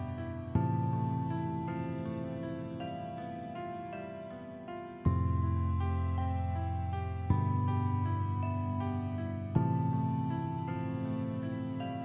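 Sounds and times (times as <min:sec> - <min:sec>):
soft slow piano music: 0:00.0 - 0:12.0.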